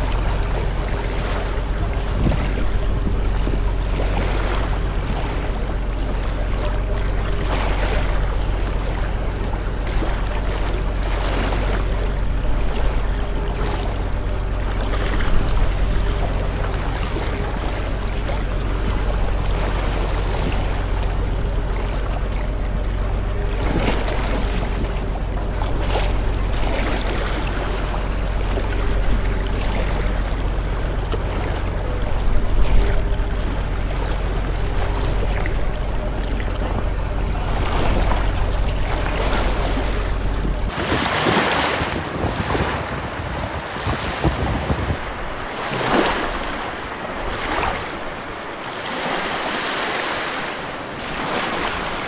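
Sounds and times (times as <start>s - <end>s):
constant low rumble: 0.0s - 52.0s
waves washing on shore: 0.0s - 52.0s.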